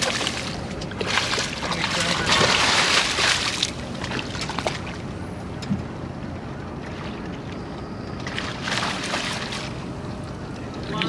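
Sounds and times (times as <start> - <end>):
water around boat: 0.0 - 11.0
wind: 0.0 - 11.0.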